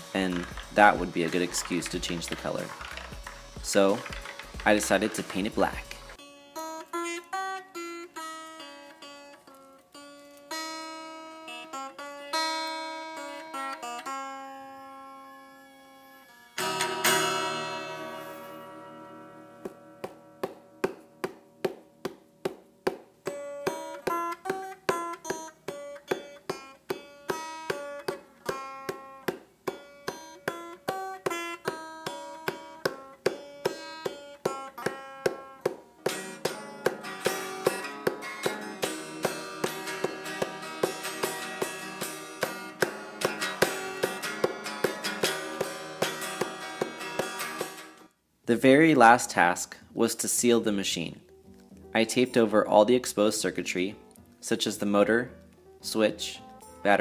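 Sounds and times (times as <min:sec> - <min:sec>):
background music: 0:00.0 - 0:57.0.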